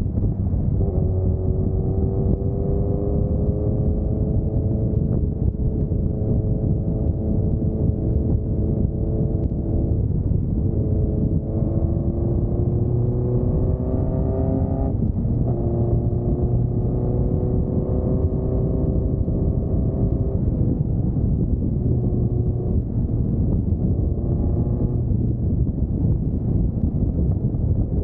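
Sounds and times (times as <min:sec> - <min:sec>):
motorcycle engine accelerating: 0:00.0 - 0:28.0
wind and road rumble: 0:00.0 - 0:28.0.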